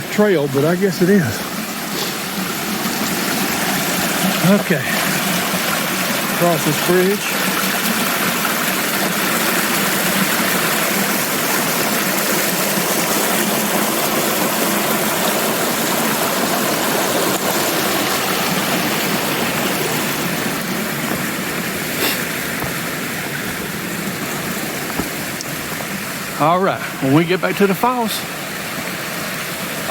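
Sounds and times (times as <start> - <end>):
creek water rushing over rocks: 0.0 - 29.9.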